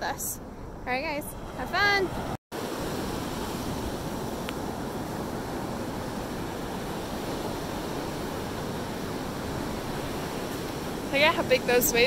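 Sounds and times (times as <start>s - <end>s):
ocean waves breaking on beach: 1.2s - 12.0s.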